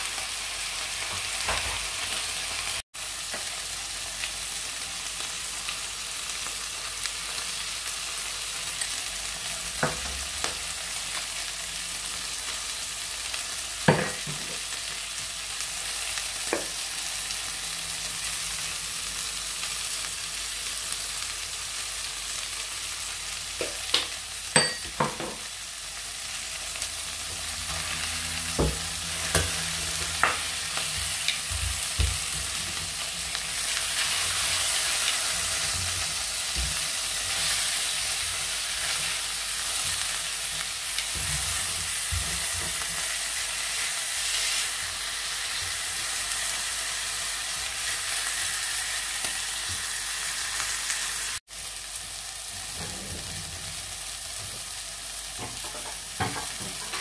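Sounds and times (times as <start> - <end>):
squid sizzling in oil: 0.0 - 57.0.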